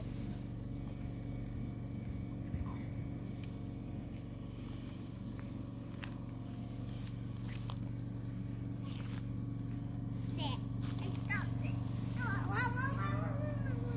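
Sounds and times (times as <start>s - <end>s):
low motor hum: 0.0s - 13.9s.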